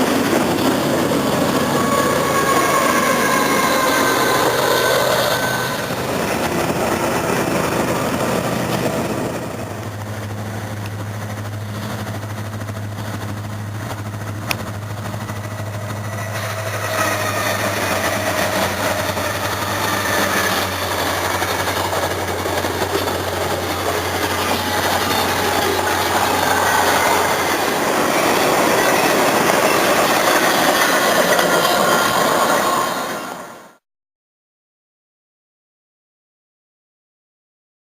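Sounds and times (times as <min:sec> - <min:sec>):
steel train wheels squealing: 0:00.0 - 0:13.8, 0:14.9 - 0:33.7
low engine drone: 0:00.0 - 0:33.2.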